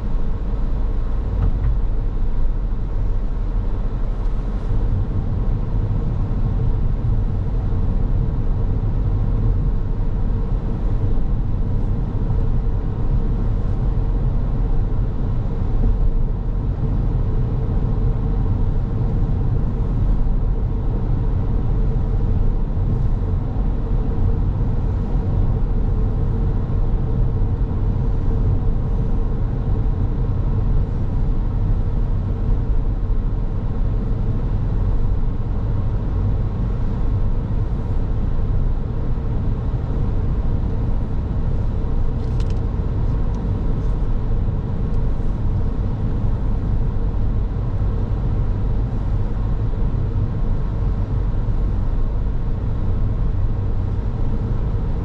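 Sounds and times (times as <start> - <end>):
car tyres rumbling on road: 0.0 - 55.0
steady hum: 0.0 - 55.0.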